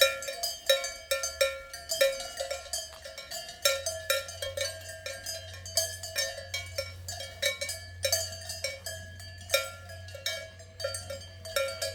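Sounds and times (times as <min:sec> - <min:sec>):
cowbells clanging: 0:00.0 - 0:11.9.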